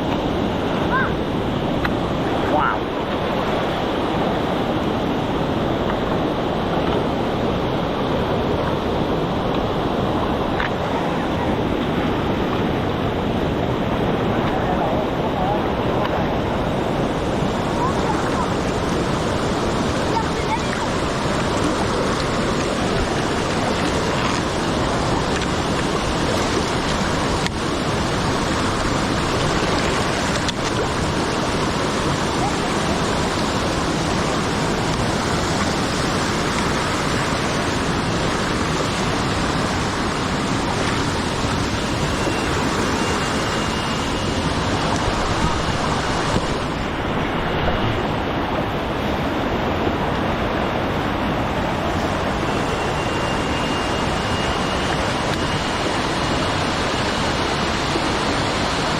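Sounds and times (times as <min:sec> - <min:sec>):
waterfall roaring: 0:00.0 - 0:58.9.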